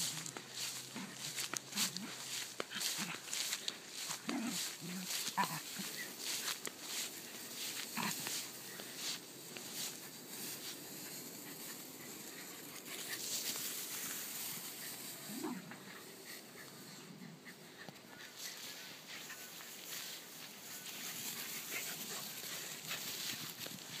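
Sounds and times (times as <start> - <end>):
grass swishing rustles: 0.0 - 24.0.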